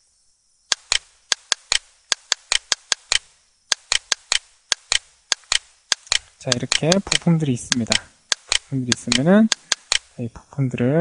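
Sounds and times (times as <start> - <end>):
computer mouse clicking: 0.7 - 10.1.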